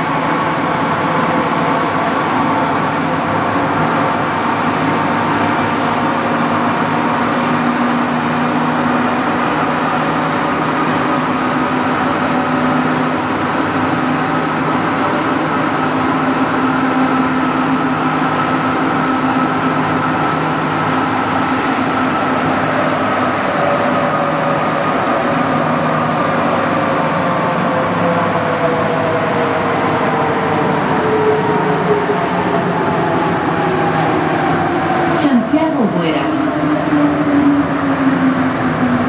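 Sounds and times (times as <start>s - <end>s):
train rolling noise: 0.0s - 39.0s.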